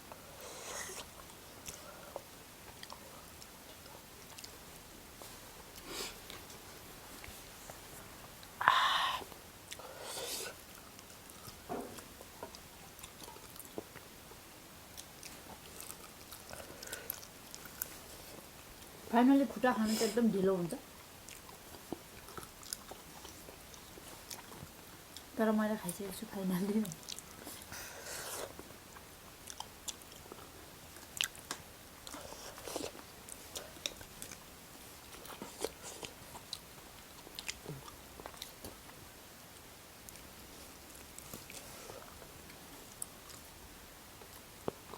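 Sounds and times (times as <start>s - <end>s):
chewing fried chicken: 0.1s - 4.7s, 9.7s - 19.0s, 20.9s - 25.3s, 26.7s - 44.9s.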